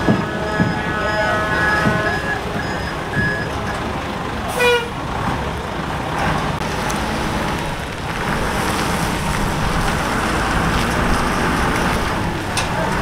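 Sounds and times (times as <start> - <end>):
forklift engine running: 0.0 - 13.0.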